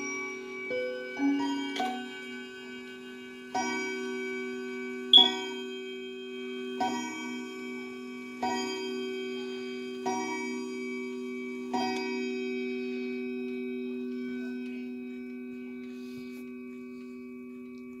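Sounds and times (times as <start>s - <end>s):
clock chime strikes: 0.0s - 18.0s.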